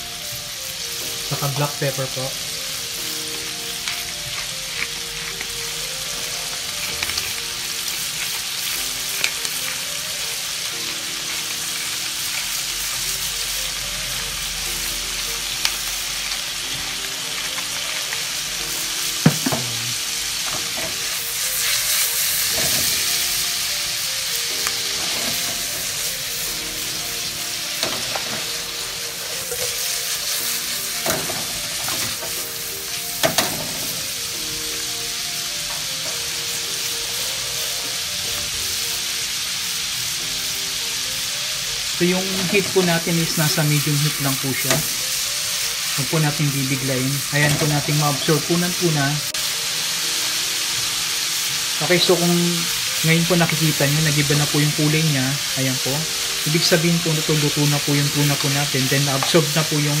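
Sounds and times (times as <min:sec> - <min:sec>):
fish sizzling in a frying pan: 0:00.0 - 1:00.0.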